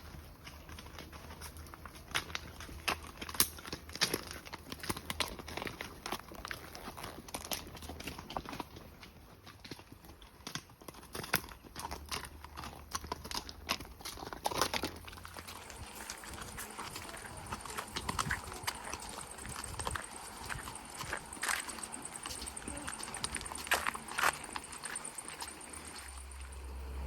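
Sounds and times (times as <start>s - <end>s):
horse hooves clip-clopping: 0.0s - 27.0s.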